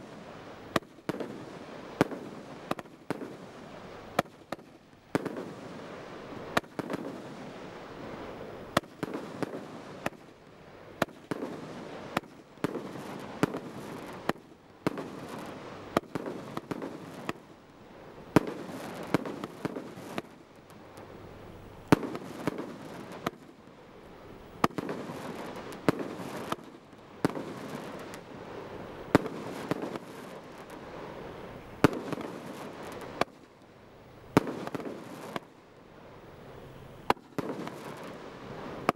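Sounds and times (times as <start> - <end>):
firework bangs: 0.0 - 10.3, 11.0 - 17.5, 18.3 - 20.4, 21.8 - 23.6, 24.6 - 31.1, 31.8 - 33.4, 34.3 - 35.5, 37.0 - 38.9
rush of bursting firework shots: 0.0 - 17.5, 18.3 - 20.8, 21.8 - 23.6, 24.6 - 33.5, 34.3 - 35.5, 37.0 - 38.9.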